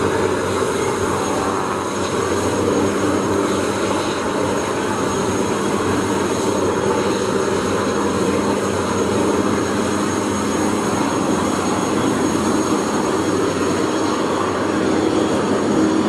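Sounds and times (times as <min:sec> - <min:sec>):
thin high engine whine: 0:00.0 - 0:16.0
turboprop engine running: 0:00.0 - 0:16.0.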